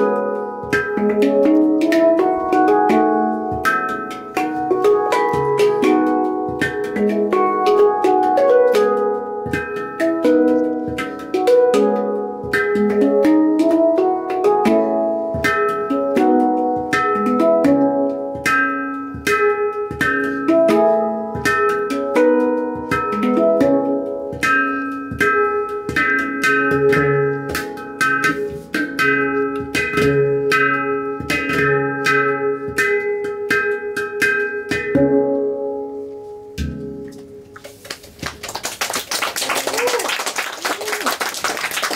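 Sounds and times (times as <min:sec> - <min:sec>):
handpan played with fingers: 0:00.0 - 0:38.4.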